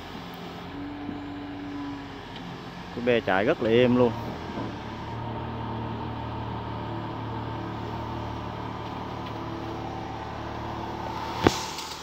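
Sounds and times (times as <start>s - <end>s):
diesel excavator engine humming: 0.0s - 12.0s.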